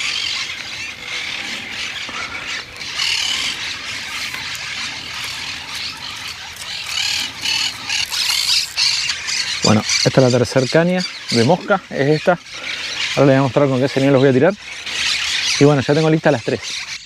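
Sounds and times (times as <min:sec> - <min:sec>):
birds squawking: 0:00.0 - 0:17.0.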